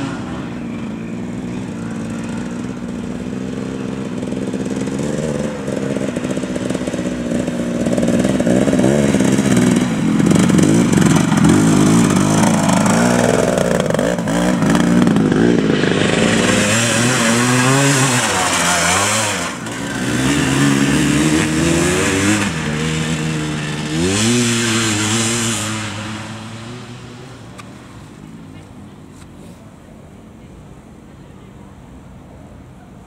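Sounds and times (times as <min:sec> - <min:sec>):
motorcycle engine: 0:00.0 - 0:29.1.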